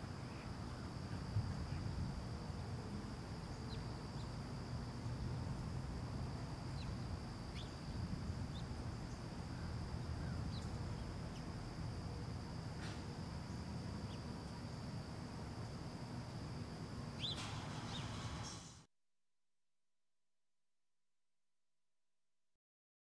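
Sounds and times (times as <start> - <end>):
high insect drone: 0.0 - 18.9.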